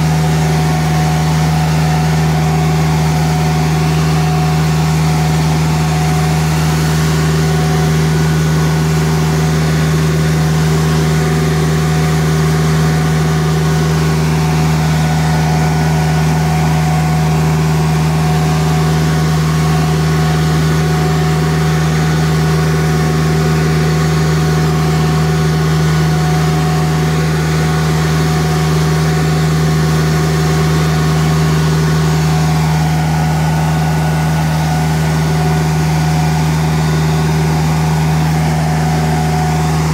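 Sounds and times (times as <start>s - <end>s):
floor scrubber machine humming: 0.0s - 39.9s.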